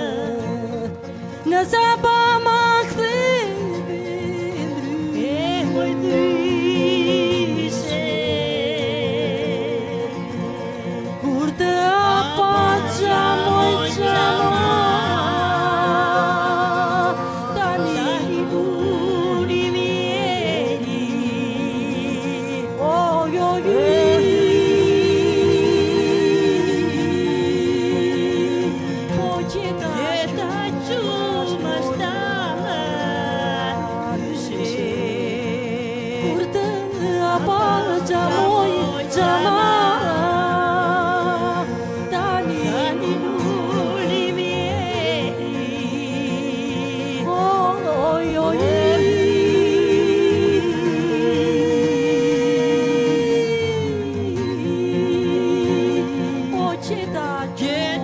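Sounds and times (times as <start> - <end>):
instrumental accompaniment: 0.0 - 58.0
violin: 0.0 - 58.0
women singing folk song: 0.0 - 58.0.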